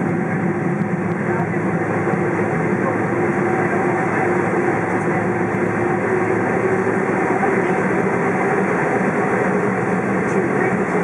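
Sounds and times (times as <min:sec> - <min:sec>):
jet engines at low power: 0:00.0 - 0:11.0.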